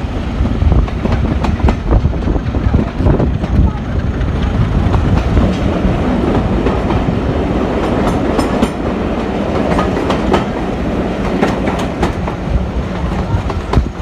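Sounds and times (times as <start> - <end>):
train rumble: 0.0 - 14.0
train wheels clicking over rail joints: 0.4 - 14.0.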